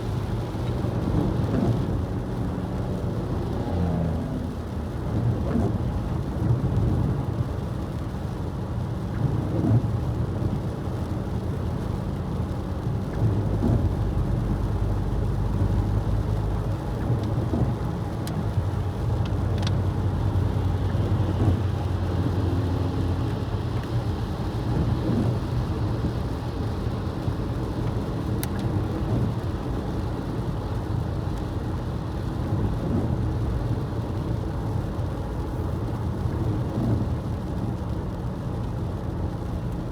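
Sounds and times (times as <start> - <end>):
car engine and tyres rumble: 0.0 - 39.9
rain and road spray: 0.0 - 39.9.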